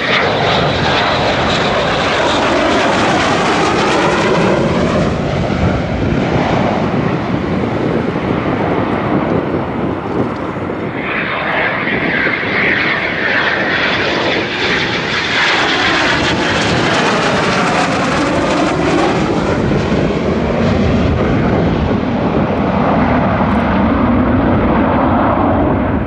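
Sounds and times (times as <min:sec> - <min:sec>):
jet flying low past: 0:00.0 - 0:26.0.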